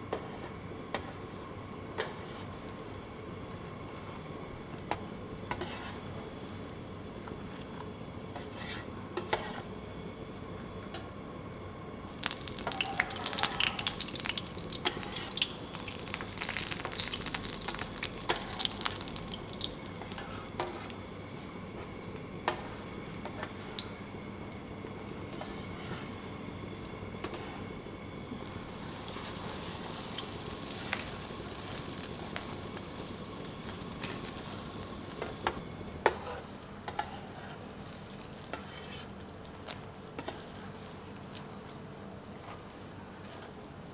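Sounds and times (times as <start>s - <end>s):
food sizzling and crackling: 0.0s - 7.6s, 12.0s - 43.8s
steady background hum: 0.0s - 43.9s.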